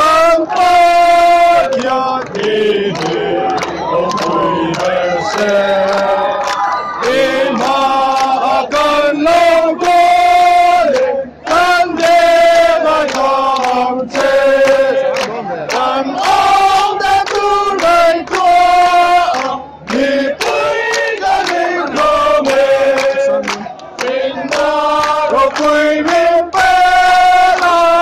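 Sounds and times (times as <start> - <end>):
football supporters chanting: 0.0 - 28.0.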